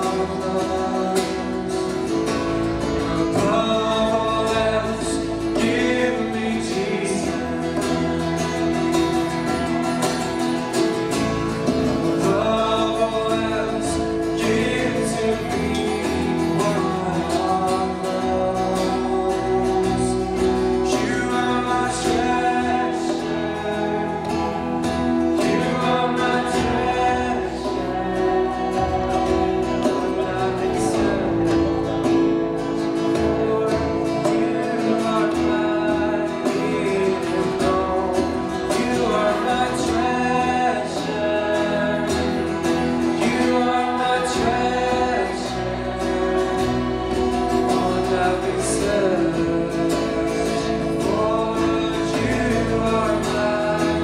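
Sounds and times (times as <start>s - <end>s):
acoustic guitar strumming: 0.0s - 54.0s
group of voices singing: 0.0s - 54.0s.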